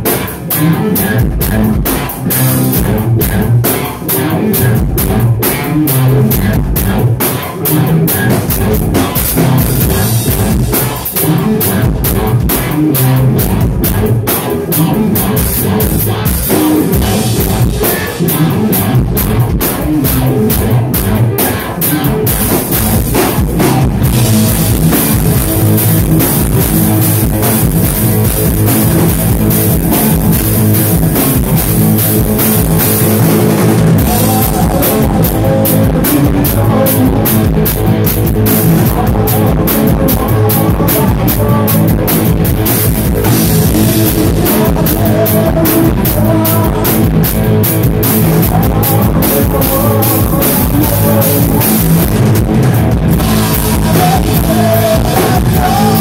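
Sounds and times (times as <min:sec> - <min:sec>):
driving drum kit: 0:00.0 - 0:56.0
electric guitars: 0:00.0 - 0:56.0.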